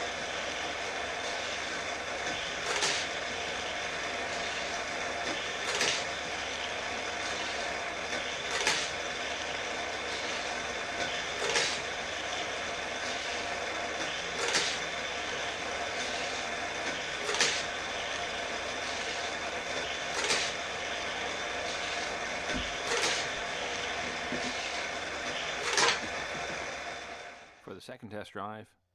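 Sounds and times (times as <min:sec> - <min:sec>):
toy track booster whirring: 0:00.0 - 0:27.6
toy car whizzing: 0:01.7 - 0:26.6.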